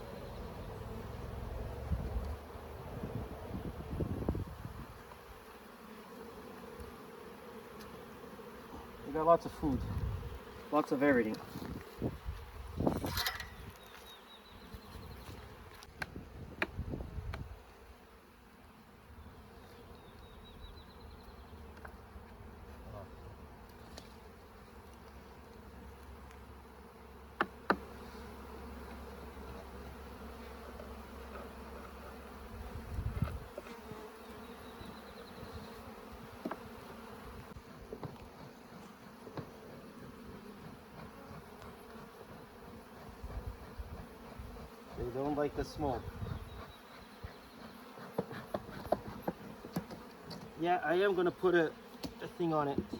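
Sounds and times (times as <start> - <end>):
bees buzzing: 0.0 - 15.9, 17.5 - 52.9.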